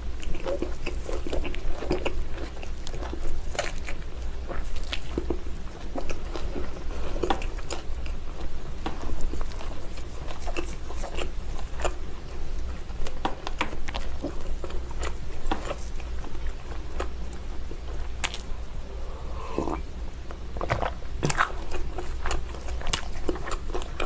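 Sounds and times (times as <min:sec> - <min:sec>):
steady low hum: 0:00.0 - 0:24.0
chewing and biting: 0:00.2 - 0:18.7, 0:19.6 - 0:24.0.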